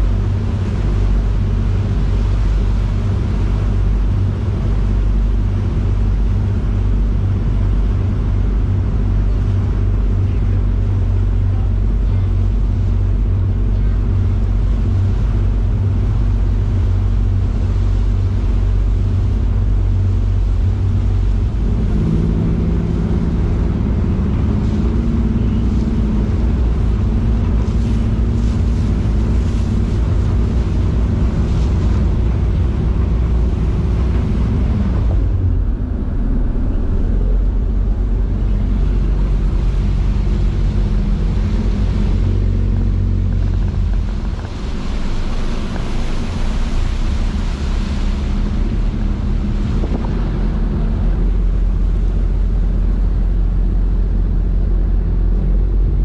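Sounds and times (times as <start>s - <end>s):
rush of churning wake: 0.0s - 56.0s
ship engines droning: 0.0s - 56.0s
wind on the microphone: 0.0s - 56.0s.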